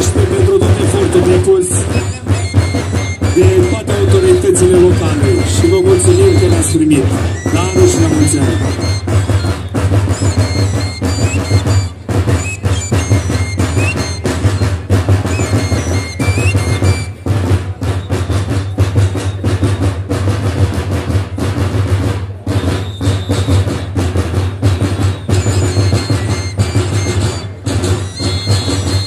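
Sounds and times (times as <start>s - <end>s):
high whistle-like notes: 0.0s - 20.0s, 22.5s - 29.0s
big drums beaten fast: 0.0s - 29.0s.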